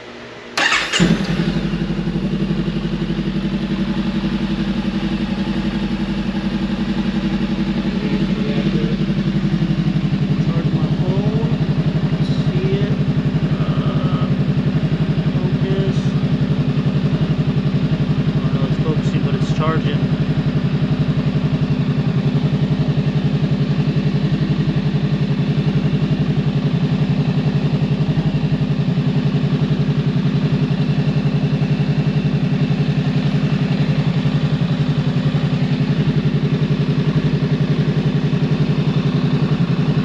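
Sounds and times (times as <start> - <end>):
motorcycle engine idling: 0.6 - 40.0.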